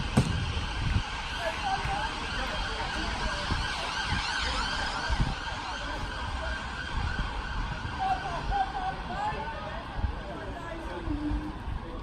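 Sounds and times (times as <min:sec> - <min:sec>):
siren wailing: 0:00.0 - 0:10.3
low gusty rumble: 0:00.0 - 0:12.0.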